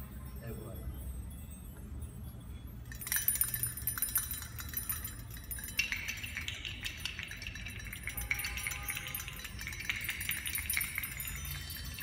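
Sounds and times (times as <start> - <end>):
mobile pieces clinking and tinkling: 0.0 - 12.0.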